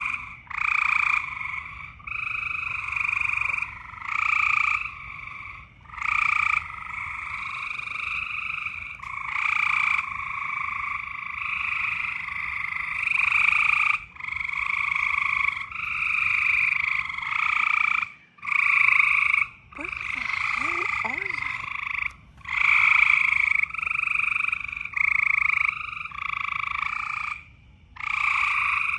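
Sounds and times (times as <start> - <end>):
frogs croaking: 0.0 - 28.9.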